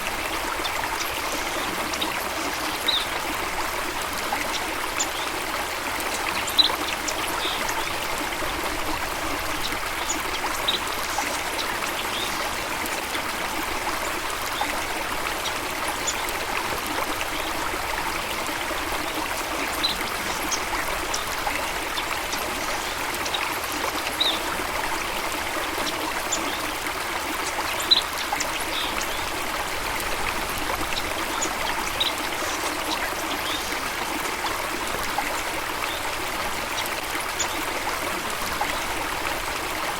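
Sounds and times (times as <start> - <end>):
stream of water running: 0.0 - 39.9.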